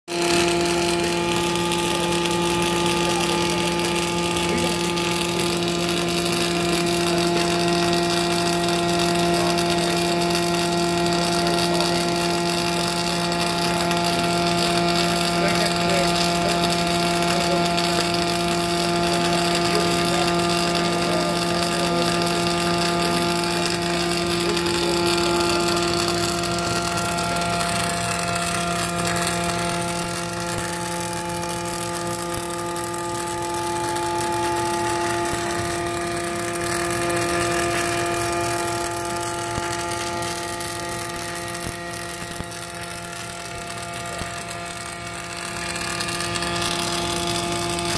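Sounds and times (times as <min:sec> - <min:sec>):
steady hum: 0:00.1 - 0:47.9
welding arc hissing: 0:00.1 - 0:47.9.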